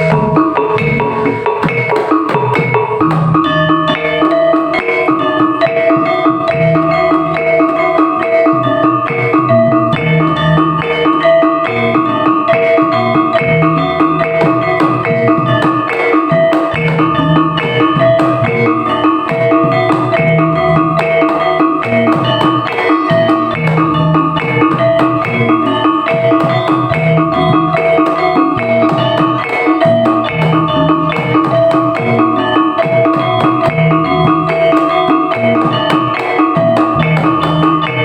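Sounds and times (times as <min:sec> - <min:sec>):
dance music with drums: 0:00.0 - 0:38.0.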